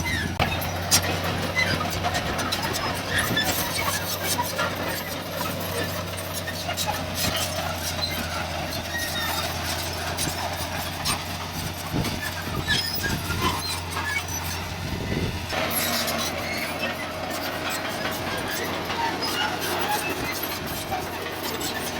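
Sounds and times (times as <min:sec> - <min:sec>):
diesel earthmoving machinery running: 0:00.0 - 0:21.9.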